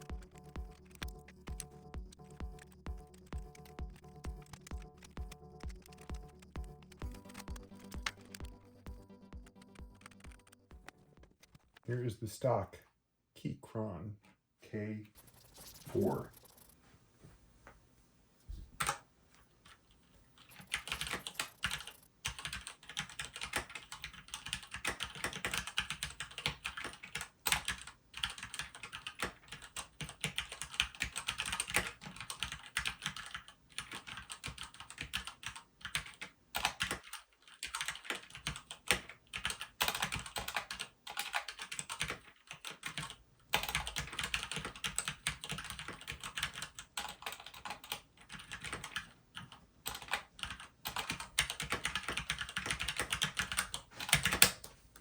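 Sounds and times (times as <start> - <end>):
mechanical keyboard typing: 0.0 - 11.9, 15.2 - 16.8, 18.8 - 19.0, 20.4 - 55.0.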